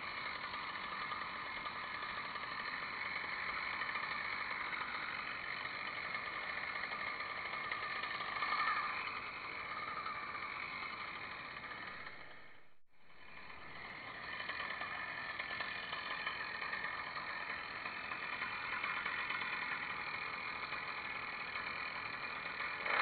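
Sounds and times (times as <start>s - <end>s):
small petrol engine idling: 0.0s - 23.0s.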